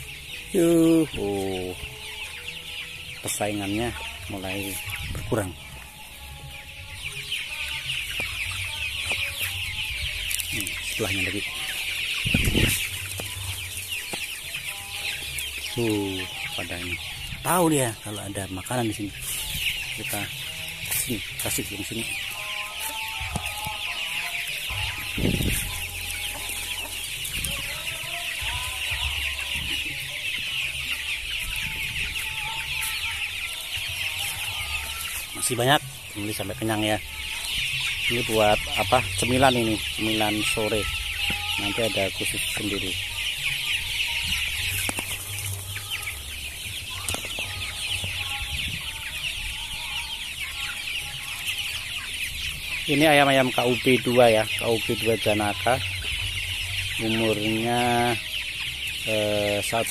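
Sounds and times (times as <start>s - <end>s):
chicks peeping and clucking: 0.0s - 59.9s.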